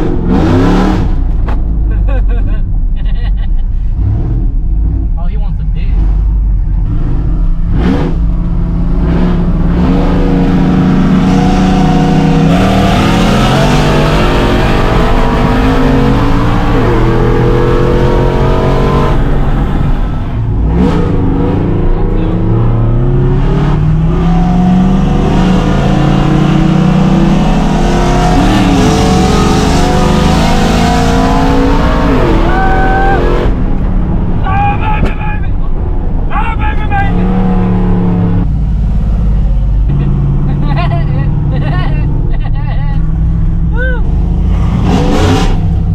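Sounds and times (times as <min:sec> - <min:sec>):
truck engines accelerating hard: 0:00.0 - 0:45.9.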